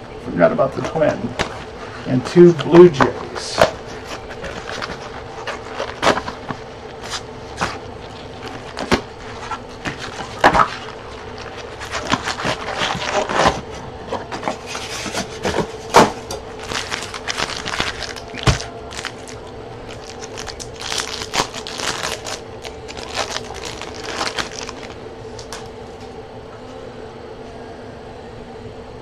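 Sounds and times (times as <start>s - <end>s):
faint steady hum: 0.0s - 29.0s
foil wrappers crinkling and tearing: 0.7s - 25.7s.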